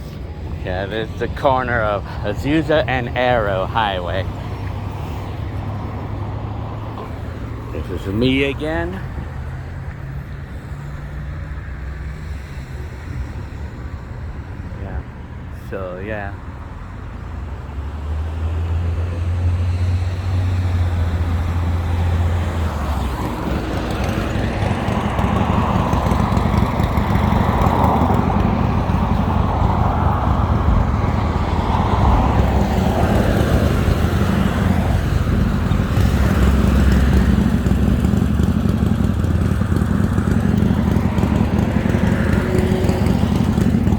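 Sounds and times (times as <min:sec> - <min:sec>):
traffic rumble: 0:00.0 - 0:43.9
vehicle passing by: 0:00.0 - 0:43.9.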